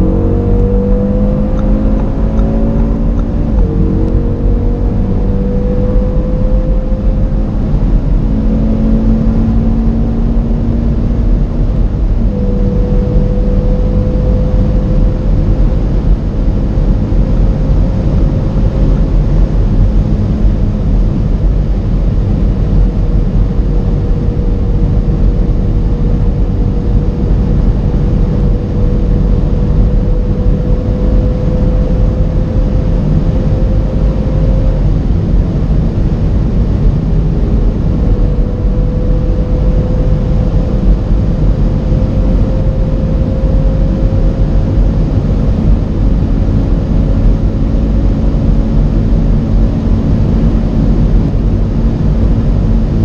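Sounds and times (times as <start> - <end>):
car engine pulling hard: 0.0 - 53.0
wind noise: 0.0 - 53.0.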